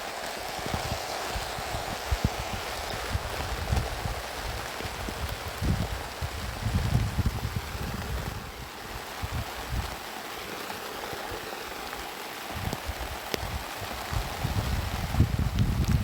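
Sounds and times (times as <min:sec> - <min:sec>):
wind gusting into microphone: 0:00.0 - 0:10.1, 0:12.5 - 0:16.0
rain falling: 0:00.0 - 0:16.0.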